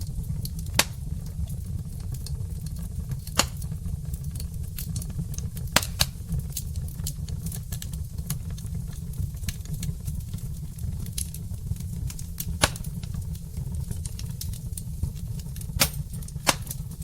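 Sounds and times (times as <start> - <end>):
fire crackling: 0.0 - 17.0
sharp fire pops: 0.1 - 17.0.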